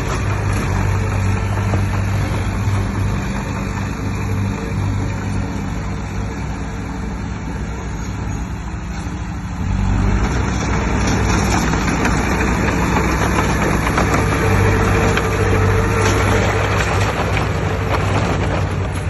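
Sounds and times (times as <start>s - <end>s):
earthmover diesel engine running: 0.0s - 19.0s.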